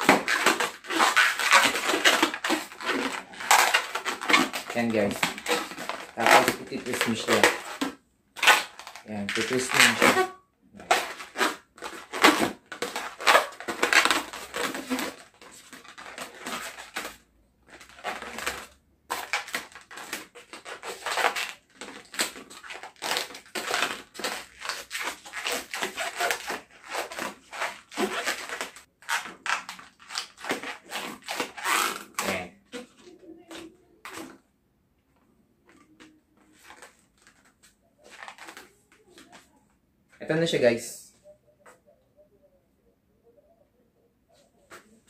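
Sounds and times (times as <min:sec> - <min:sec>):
balloons squeaking and rubbing: 0:00.0 - 0:34.4, 0:35.7 - 0:39.6.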